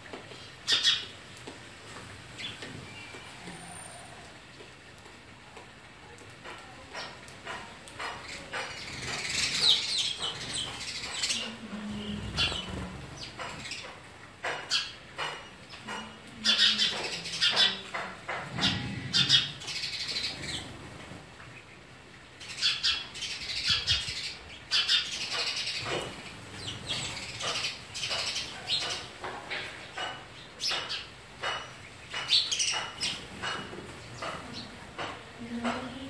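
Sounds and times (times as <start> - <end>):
sparrows chirping: 0.4 - 1.1, 6.2 - 36.0.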